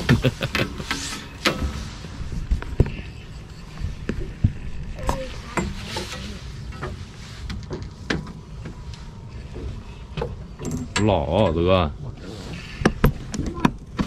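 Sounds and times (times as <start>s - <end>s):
water around boat: 0.0s - 14.0s
wind: 0.0s - 14.0s.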